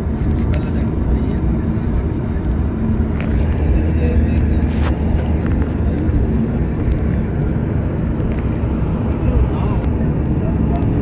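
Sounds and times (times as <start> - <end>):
vehicle rumble from inside cabin: 0.0 - 11.0.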